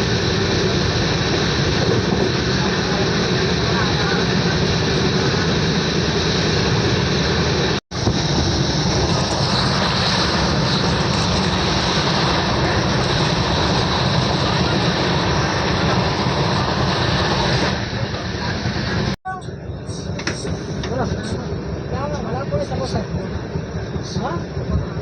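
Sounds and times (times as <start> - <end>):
train rushing roar: 0.0 - 25.0.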